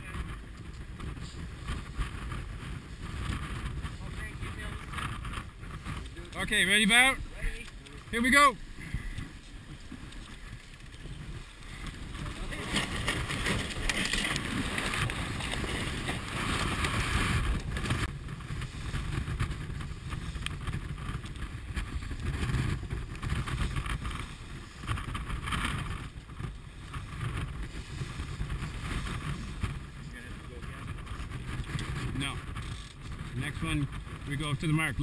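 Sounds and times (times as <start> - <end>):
water rushing along hull: 0.0 - 35.0
wind buffeting microphone: 0.0 - 35.0.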